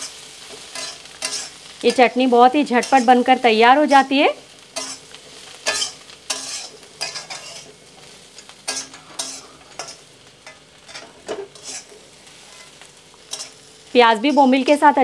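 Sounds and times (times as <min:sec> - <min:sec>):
spatula scraping a pan: 0:00.0 - 0:02.1, 0:02.8 - 0:03.3, 0:04.8 - 0:14.6
low sizzle of frying: 0:00.0 - 0:15.0.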